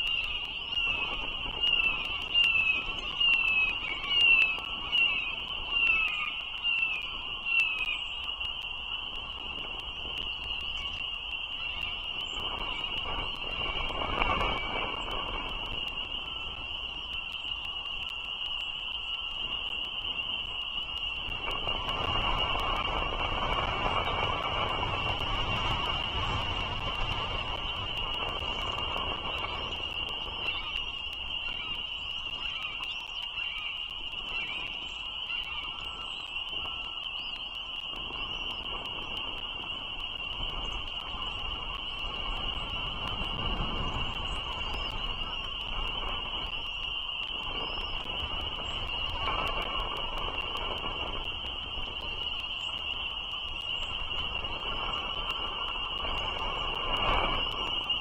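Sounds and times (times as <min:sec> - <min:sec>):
low wind rumble: 0:00.0 - 0:18.4, 0:19.1 - 0:58.0
faint bird chirps: 0:00.0 - 0:22.9, 0:26.8 - 0:50.5
chorus of high frog calls: 0:00.0 - 0:58.0.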